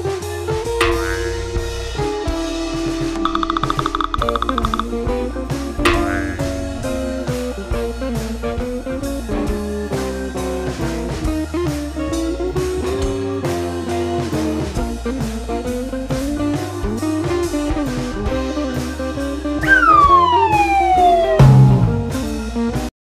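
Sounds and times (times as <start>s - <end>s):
guitar-led instrumental music: 0.0s - 22.9s
steady drum beat: 0.7s - 22.8s.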